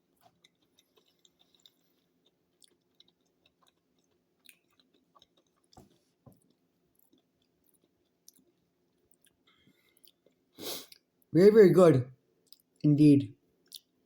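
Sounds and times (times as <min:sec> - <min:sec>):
cookie chewing crunches: 0:00.0 - 0:11.3, 0:12.4 - 0:13.0, 0:13.6 - 0:14.0.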